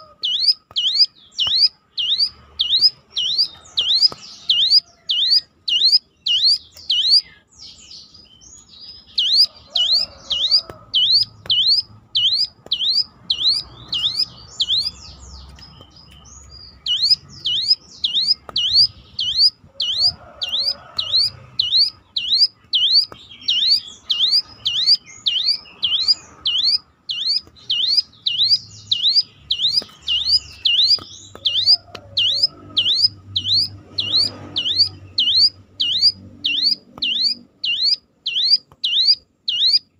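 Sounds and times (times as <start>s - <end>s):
bird calling siren-like whistle: 0.0s - 7.3s, 9.2s - 14.9s, 16.8s - 39.9s
soft bird chirps: 0.0s - 39.9s.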